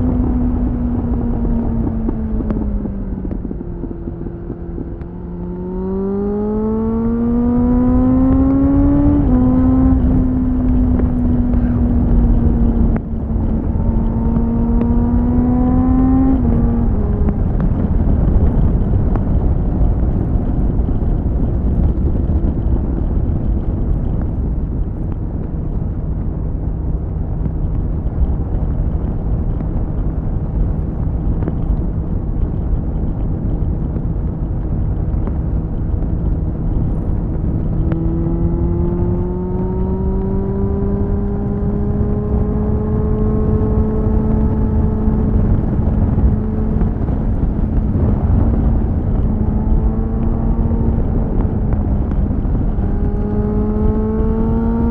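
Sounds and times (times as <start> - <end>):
motorcycle engine: 0.0 - 54.9
wind noise: 0.0 - 54.9.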